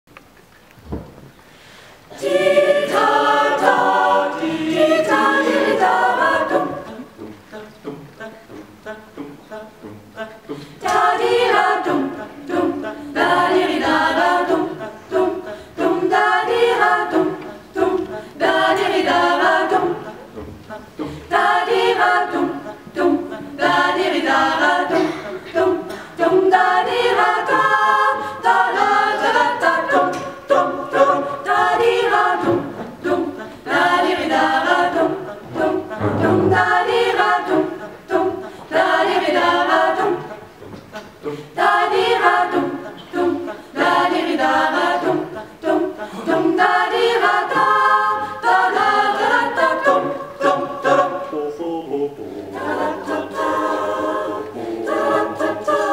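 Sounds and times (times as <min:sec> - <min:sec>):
choir singing a cappella: 0:01.5 - 0:55.9.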